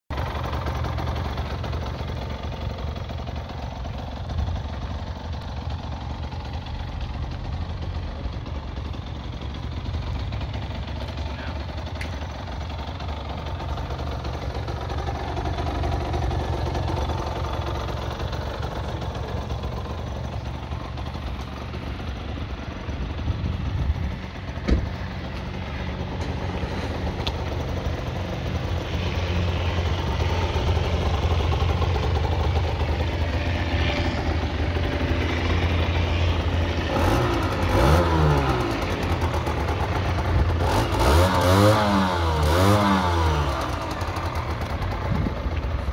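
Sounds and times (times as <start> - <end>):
two-stroke engine idling and revving: 0.1 - 45.9.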